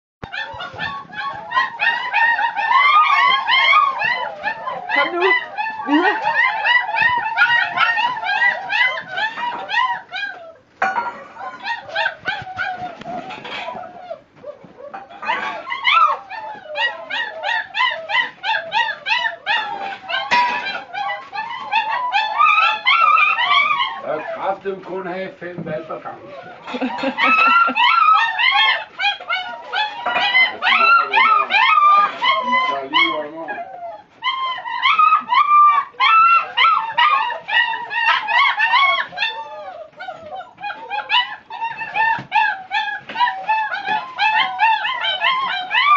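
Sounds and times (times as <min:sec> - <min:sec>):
puppies whining and yelping: 0:00.2 - 0:25.0, 0:25.7 - 0:45.9.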